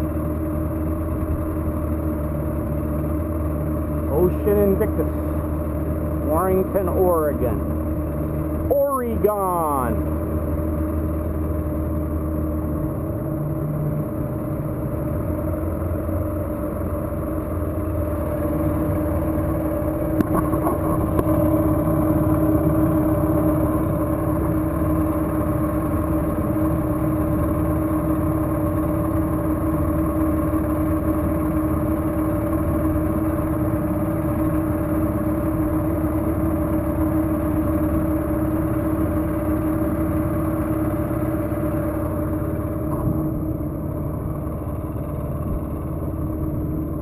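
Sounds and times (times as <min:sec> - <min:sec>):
outboard motor running: 0:00.0 - 0:47.0.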